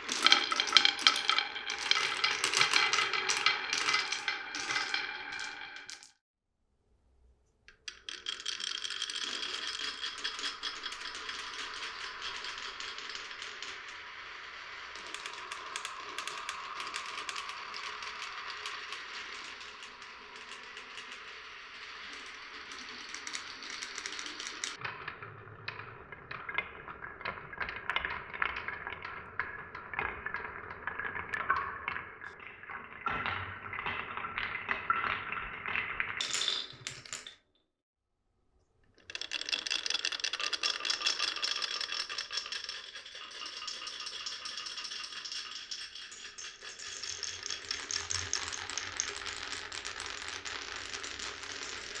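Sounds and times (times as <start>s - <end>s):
marbles rolling and clattering: 0.0s - 6.2s, 7.7s - 37.5s, 38.9s - 52.0s.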